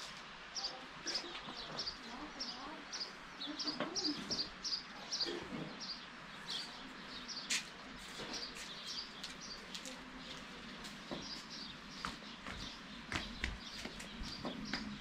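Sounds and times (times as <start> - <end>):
small birds chirping: 0.5 - 15.0.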